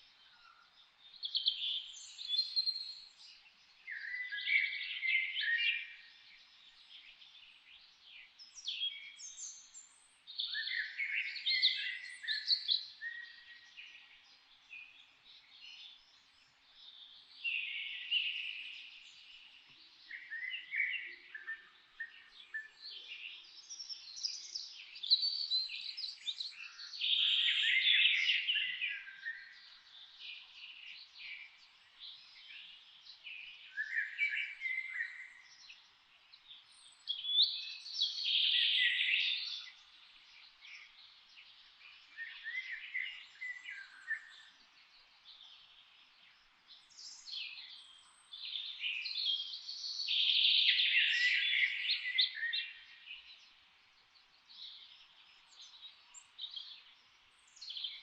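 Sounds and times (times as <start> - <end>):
songbirds chirping and warbling: 0.0 - 58.0.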